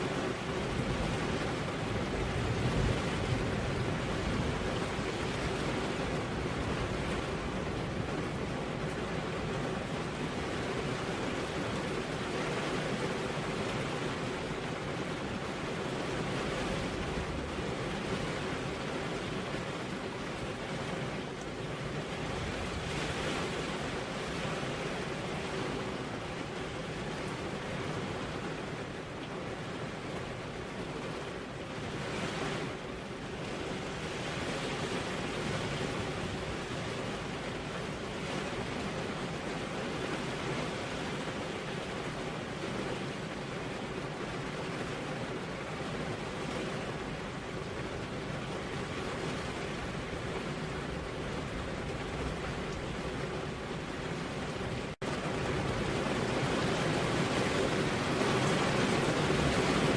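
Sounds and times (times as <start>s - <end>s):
heavy rain on a road: 0.0s - 59.9s.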